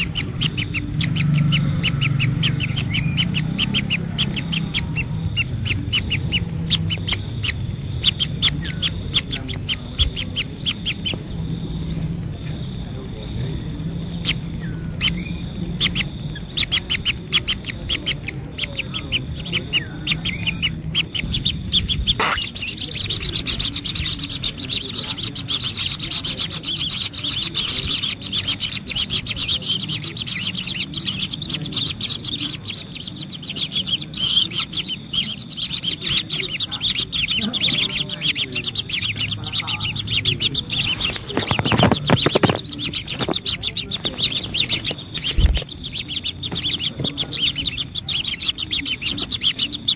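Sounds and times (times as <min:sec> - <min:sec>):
birds chirping and chattering: 0:00.0 - 0:49.9.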